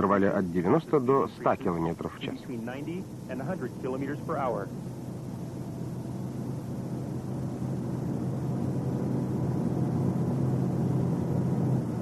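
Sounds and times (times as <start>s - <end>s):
car road and engine drone: 0.0s - 12.0s.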